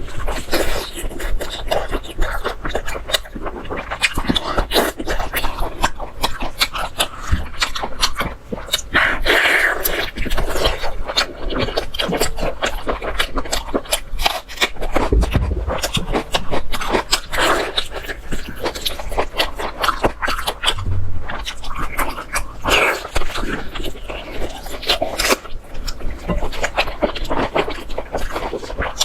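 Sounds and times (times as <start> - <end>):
chewing and lip-smacking: 0.0 - 29.0.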